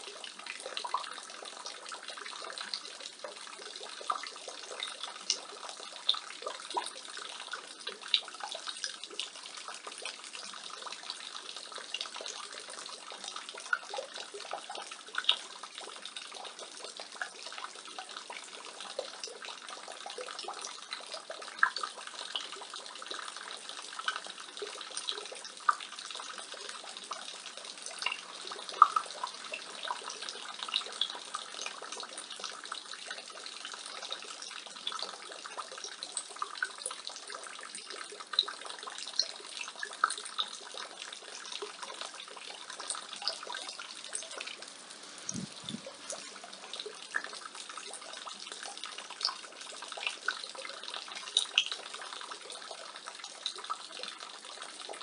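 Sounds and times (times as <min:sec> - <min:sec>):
rain water splashing from gutter: 0:00.0 - 0:55.0.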